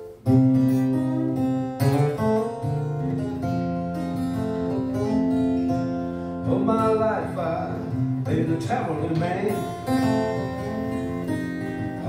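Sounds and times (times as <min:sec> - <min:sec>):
acoustic guitar ragtime blues: 0:00.0 - 0:12.0.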